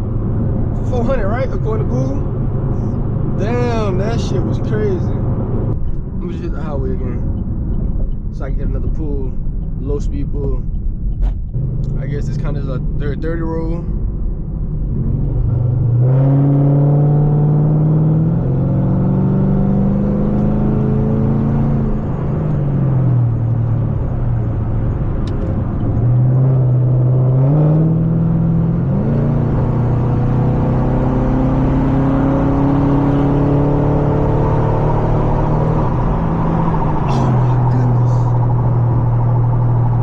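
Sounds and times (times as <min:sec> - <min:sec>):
car engine accelerating hard: 0:00.0 - 0:07.4, 0:14.6 - 0:40.0.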